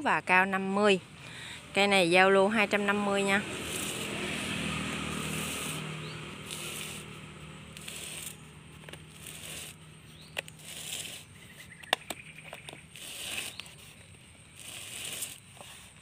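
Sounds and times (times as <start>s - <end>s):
plastic pot scraping and crinkling: 2.5s - 16.0s.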